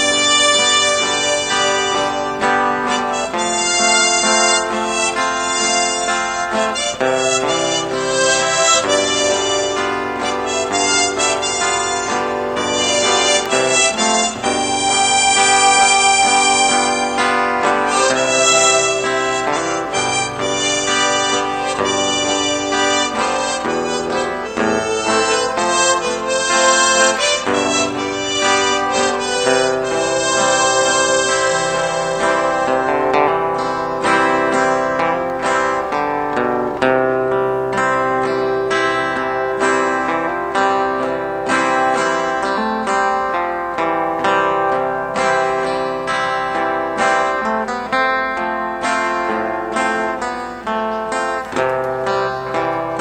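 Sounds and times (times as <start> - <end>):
instrumental background music: 0.0 - 53.0
reedy melody over chords: 0.0 - 53.0.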